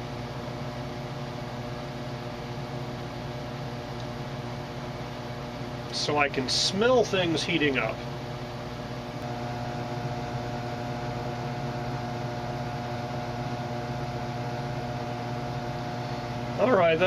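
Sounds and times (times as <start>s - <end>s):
hot air blower hum: 0.0s - 17.0s.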